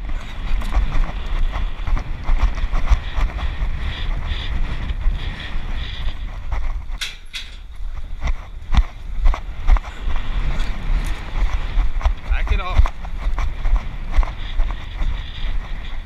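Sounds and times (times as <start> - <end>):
horse hoofbeats clicking: 0.0 - 16.0
wind buffeting microphone: 0.0 - 16.0.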